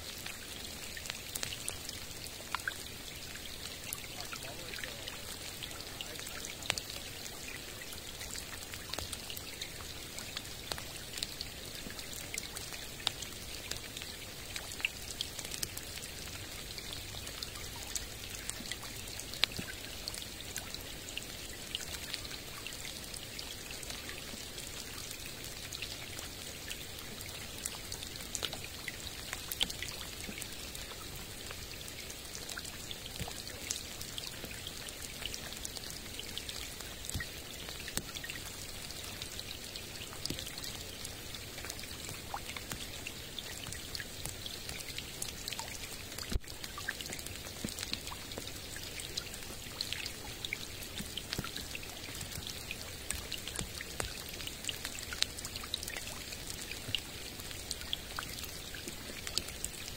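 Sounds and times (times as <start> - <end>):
rain falling on a lake: 0.0 - 59.9.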